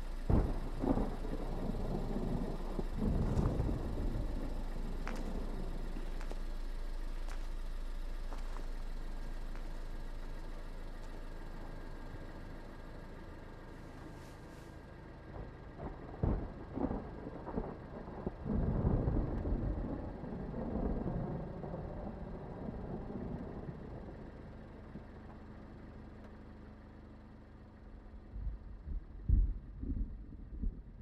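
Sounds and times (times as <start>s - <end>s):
moving vehicle rumble: 0.0s - 31.0s.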